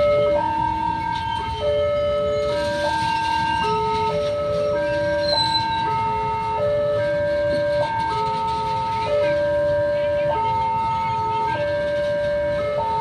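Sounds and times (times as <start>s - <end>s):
freight train rumble: 0.0s - 13.0s
level crossing warning alarm: 0.0s - 13.0s.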